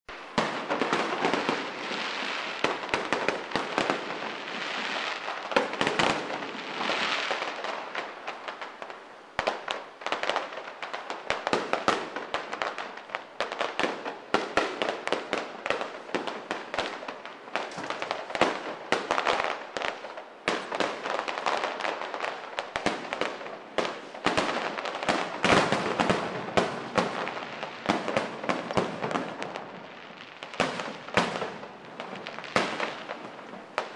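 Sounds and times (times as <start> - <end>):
fireworks bangs and crackling: 0.1 - 33.9.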